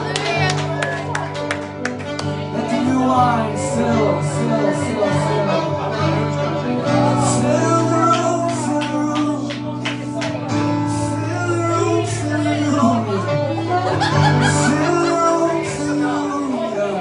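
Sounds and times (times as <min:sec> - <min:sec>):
person singing: 0:02.1 - 0:17.0.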